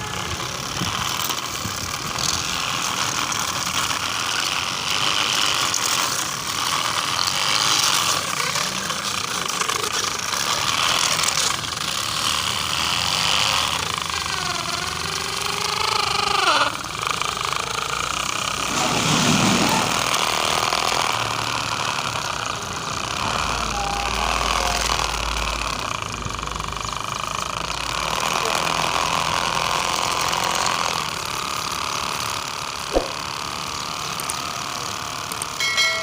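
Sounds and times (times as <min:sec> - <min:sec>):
tractor engine rattling: 0:00.0 - 0:36.0.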